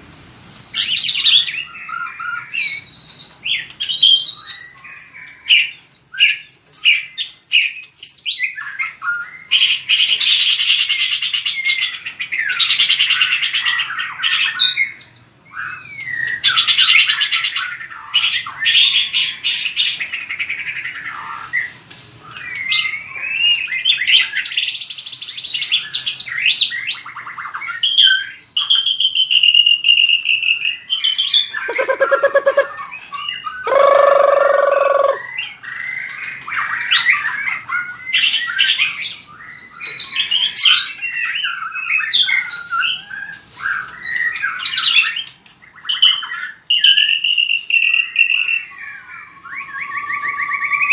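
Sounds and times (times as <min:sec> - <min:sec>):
bird singing varied song: 0:00.0 - 0:50.9
low harsh bird notes: 0:00.0 - 0:50.9.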